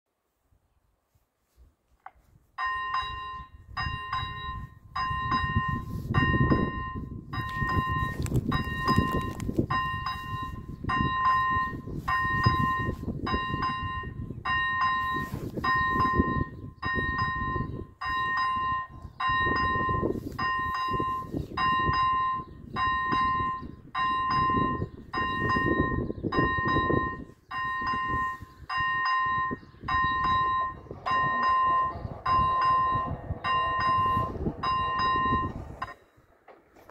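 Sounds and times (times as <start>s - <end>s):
level crossing warning bell: 2.6s - 36.5s.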